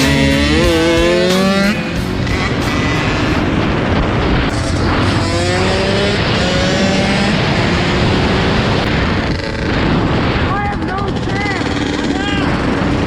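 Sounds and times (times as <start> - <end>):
dirt bike engine accelerating: 0.0 - 13.0
loud rushing noise: 0.0 - 13.0.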